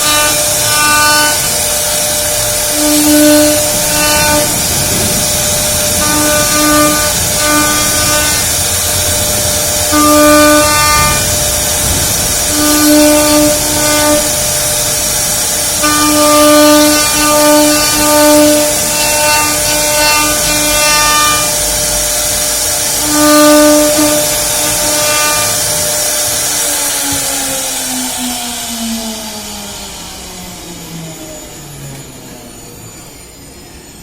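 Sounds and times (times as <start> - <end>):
steady hiss: 0.0 - 28.1
stepper motors whining: 0.0 - 34.0.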